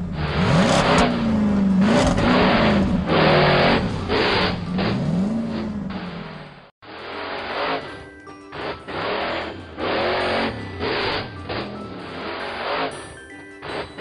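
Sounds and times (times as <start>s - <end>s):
race car engines revving: 0.0s - 14.0s.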